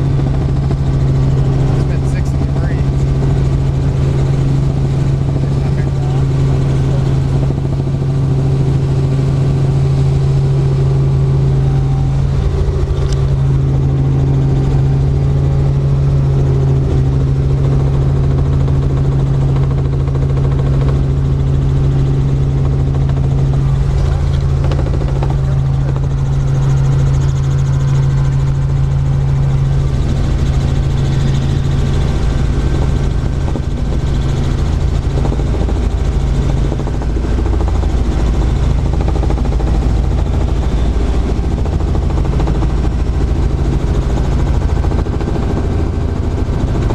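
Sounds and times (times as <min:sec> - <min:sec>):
helicopter engine and rotors droning: 0:00.0 - 0:46.9.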